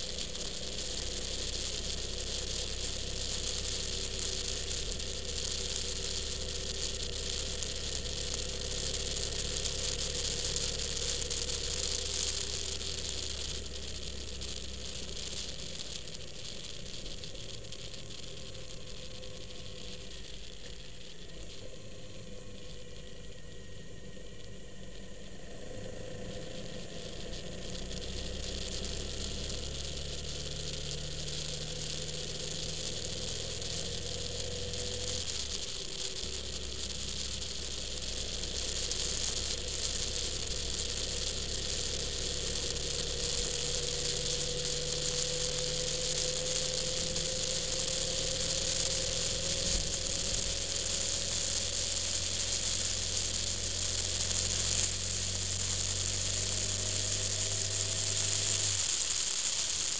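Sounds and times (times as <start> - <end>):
motorcycle engine running: 0.0 - 59.9
wind hiss: 0.0 - 59.9.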